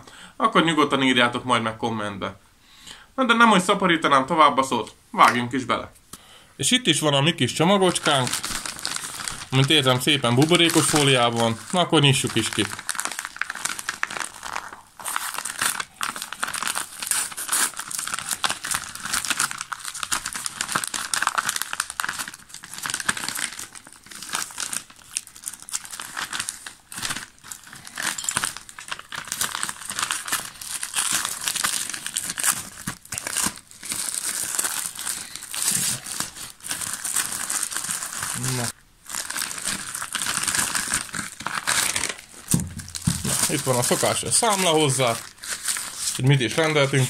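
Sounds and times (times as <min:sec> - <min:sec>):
padded envelope crinkling: 0:07.7 - 0:47.0.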